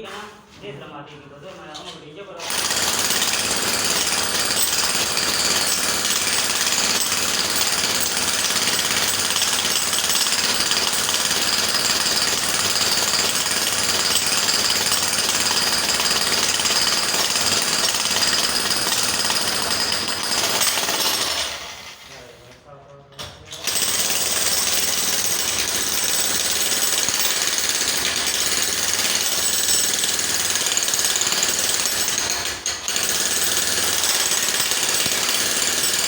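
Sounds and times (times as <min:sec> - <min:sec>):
jackhammer running: 0:02.4 - 0:22.0, 0:23.6 - 0:36.0.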